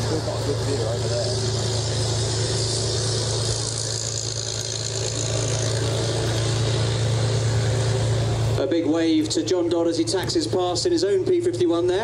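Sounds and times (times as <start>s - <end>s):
propeller aircraft engine hum: 0.0s - 12.0s.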